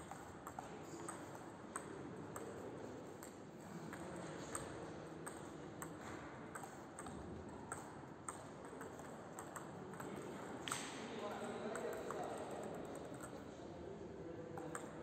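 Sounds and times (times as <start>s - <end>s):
table tennis ball clicking: 0.0s - 13.5s, 14.6s - 15.0s.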